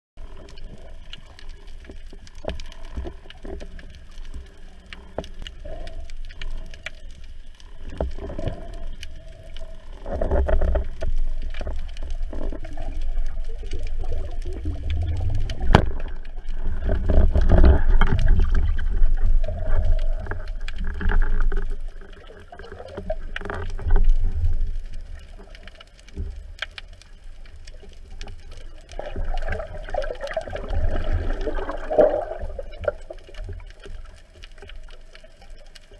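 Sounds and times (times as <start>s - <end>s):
muffled underwater water rush: 0.2s - 35.9s.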